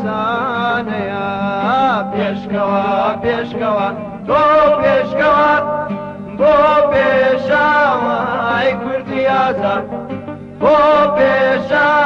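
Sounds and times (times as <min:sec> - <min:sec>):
middle eastern style song: 0:00.0 - 0:12.0.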